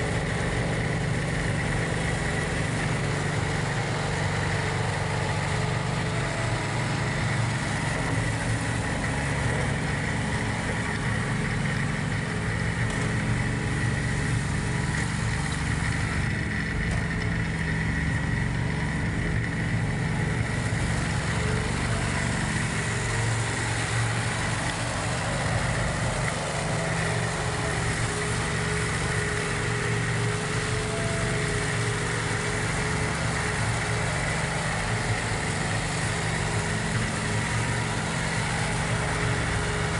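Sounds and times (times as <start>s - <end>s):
diesel tractor engine running: 0.0s - 39.9s
steady high whine: 0.0s - 39.9s.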